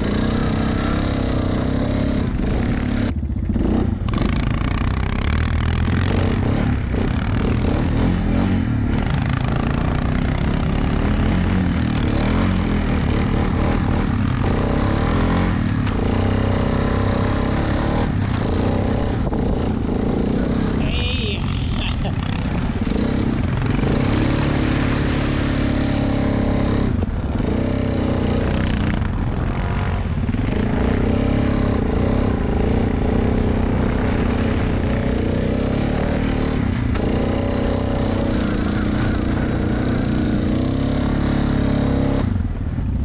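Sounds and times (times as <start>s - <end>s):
atv engine running under throttle: 0.0s - 43.0s.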